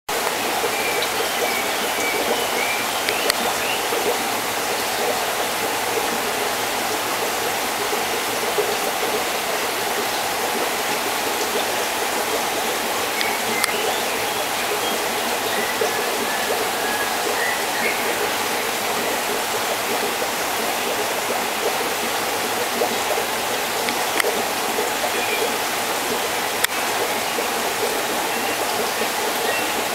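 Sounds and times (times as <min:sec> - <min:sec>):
water rushing and splashing: 0:00.1 - 0:29.9.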